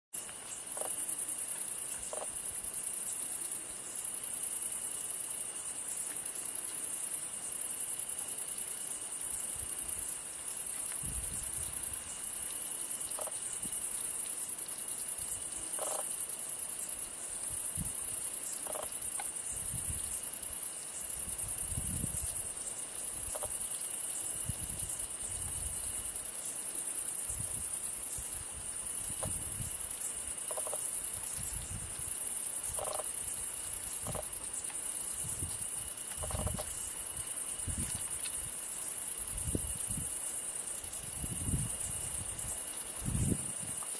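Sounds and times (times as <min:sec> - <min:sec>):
crickets chirring: 0:00.2 - 0:43.9.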